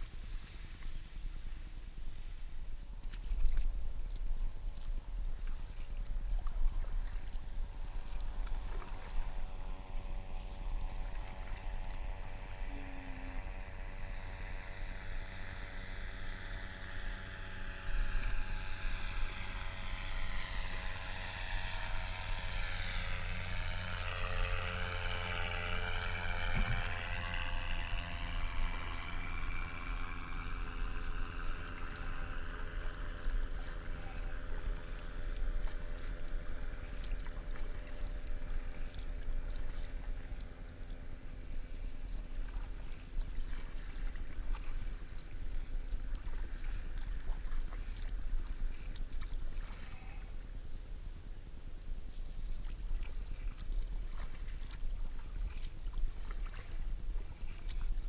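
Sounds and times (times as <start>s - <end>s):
motorboat engine passing by: 0.0s - 58.0s.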